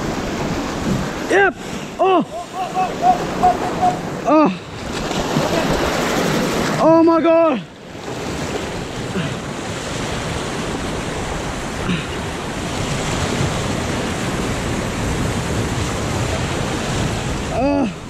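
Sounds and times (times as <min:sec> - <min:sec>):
surf washing over rocks: 0:00.0 - 0:18.0.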